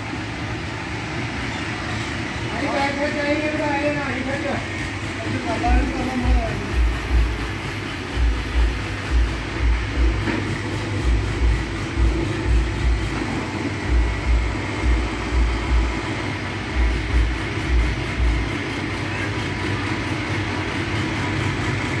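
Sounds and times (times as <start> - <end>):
overhead crane running noise: 0.0 - 22.0.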